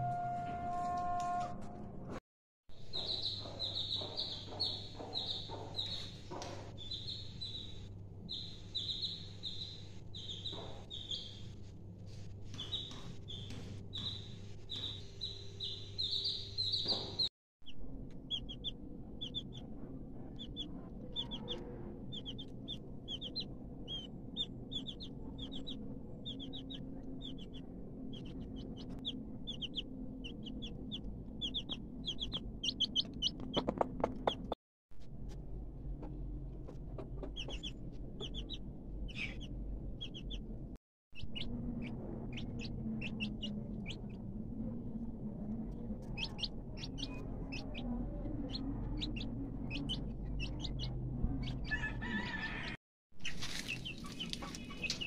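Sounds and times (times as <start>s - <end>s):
chicks peeping: 2.8s - 17.3s, 18.2s - 34.6s, 36.7s - 40.6s, 41.2s - 44.3s, 45.7s - 55.0s.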